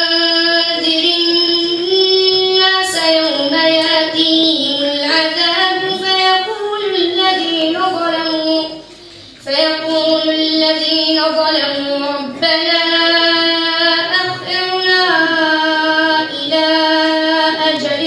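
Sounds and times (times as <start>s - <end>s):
boy reciting melodically: 0.0s - 18.0s.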